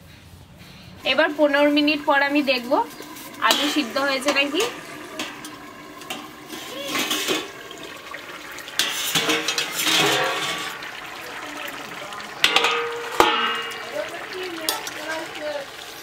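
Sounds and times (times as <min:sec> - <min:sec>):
curry bubbling and sizzling: 0:01.0 - 0:16.0.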